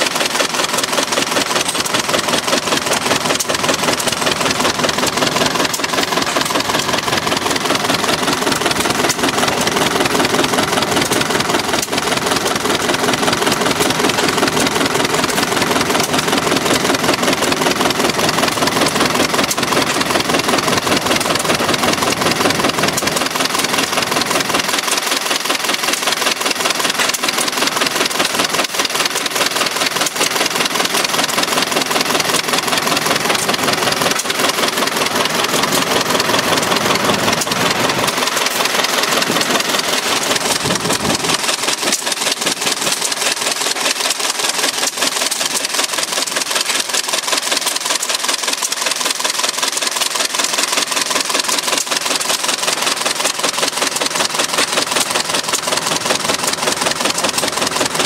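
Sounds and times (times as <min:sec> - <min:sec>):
engine running with mechanical clatter: 0:00.0 - 0:58.0.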